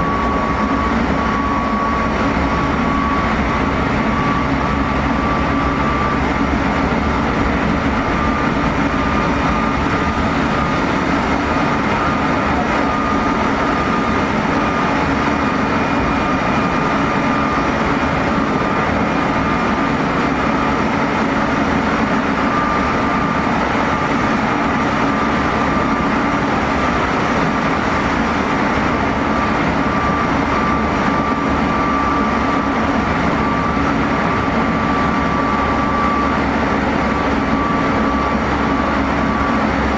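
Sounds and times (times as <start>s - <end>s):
high-pitched motor whine: 0.0s - 26.7s, 28.7s - 39.9s
wheels rumbling on rail: 0.0s - 39.9s.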